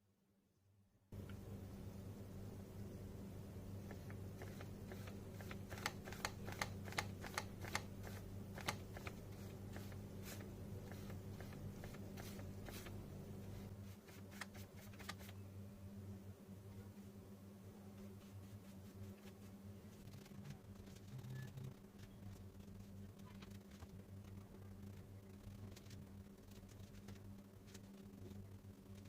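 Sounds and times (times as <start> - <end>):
steady low hum: 1.0 - 29.0.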